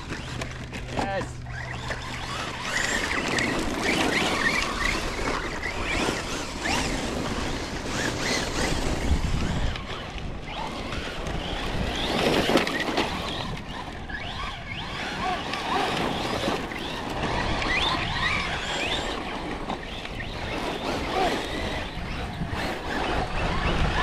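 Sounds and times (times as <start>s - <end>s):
electric motors whining: 0.0s - 24.0s
wind noise on microphone: 2.0s - 24.0s.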